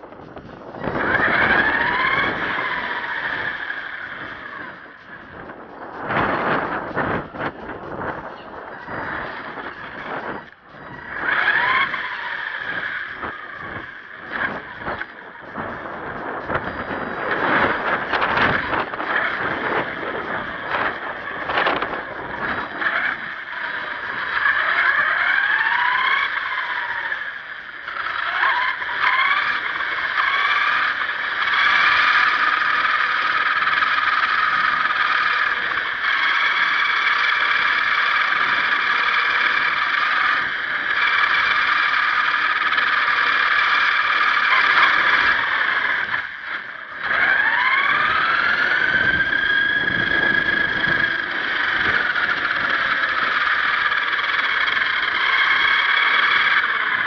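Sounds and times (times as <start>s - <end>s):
toy truck motor whining: 0.1s - 57.0s.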